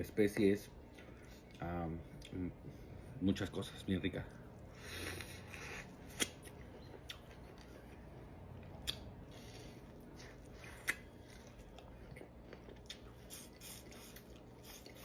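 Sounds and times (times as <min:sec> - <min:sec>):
person chewing: 0:00.9 - 0:02.4, 0:04.3 - 0:15.0.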